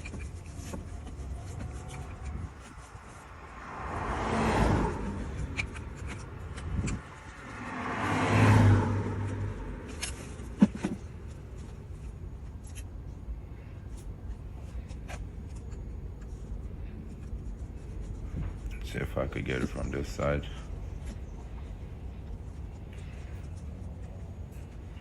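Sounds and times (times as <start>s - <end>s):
vehicles driving past: 0.0s - 25.0s.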